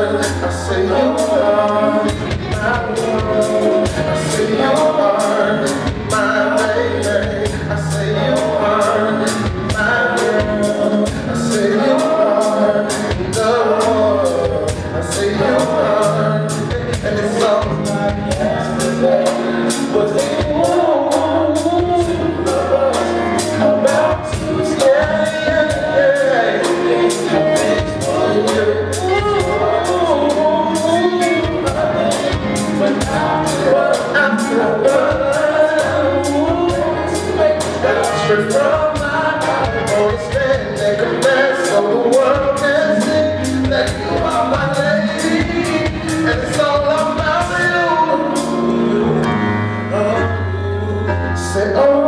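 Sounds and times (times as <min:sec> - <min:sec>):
live band playing slow song: 0:00.0 - 0:52.0
person singing: 0:00.0 - 0:52.0.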